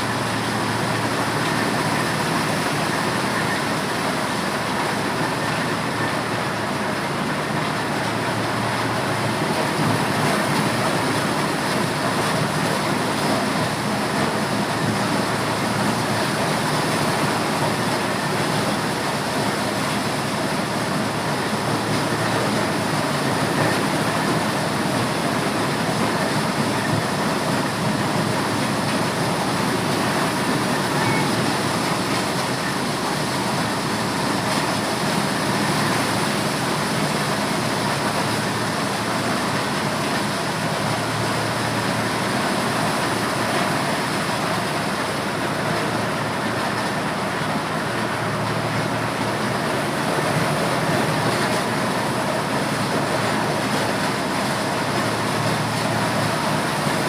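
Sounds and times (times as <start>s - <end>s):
motorised corn sheller running: 0.0s - 57.0s.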